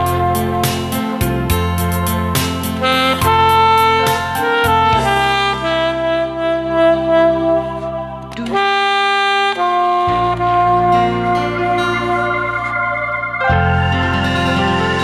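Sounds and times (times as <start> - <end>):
karaoke backing track: 0.0 - 15.0
saxophone playing slow melody: 0.0 - 15.0.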